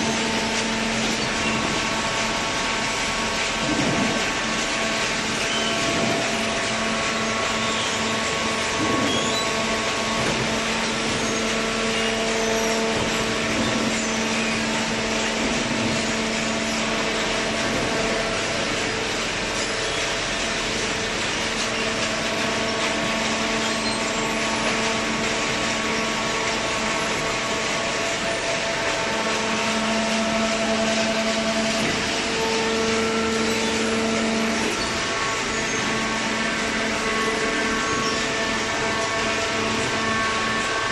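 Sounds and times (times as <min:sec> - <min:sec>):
baler machine whirring: 0:00.0 - 0:40.9.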